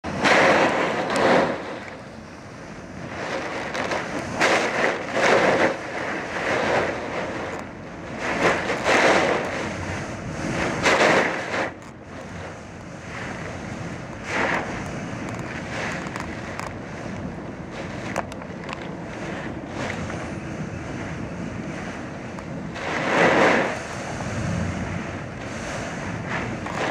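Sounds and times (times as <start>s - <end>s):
surf crashing against seawall: 0.0s - 26.9s
wind gusting against microphone: 0.0s - 26.9s.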